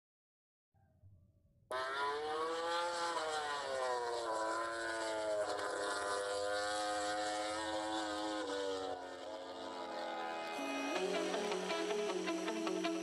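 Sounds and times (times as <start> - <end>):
motorcycle engine revving high: 1.7 - 13.0.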